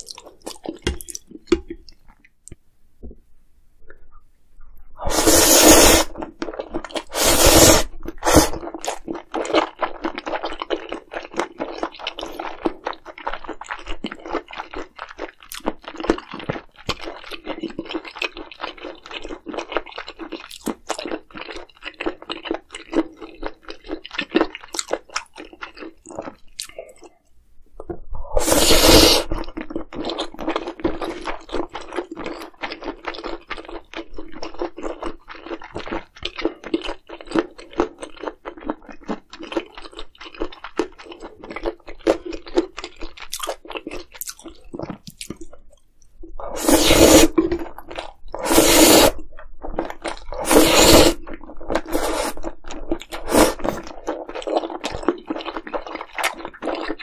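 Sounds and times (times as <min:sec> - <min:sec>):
person chewing and crunching food: 0:00.0 - 0:03.2, 0:05.0 - 0:57.0.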